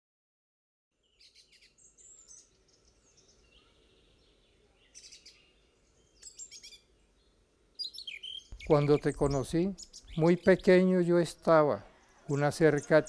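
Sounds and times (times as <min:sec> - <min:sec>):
faint birds chirping: 0:00.9 - 0:13.0.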